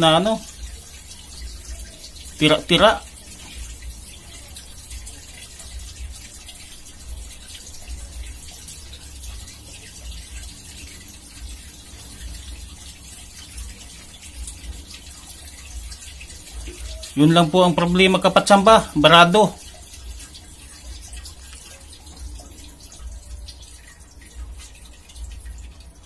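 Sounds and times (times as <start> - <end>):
water gushing onto concrete: 0.0 - 26.0.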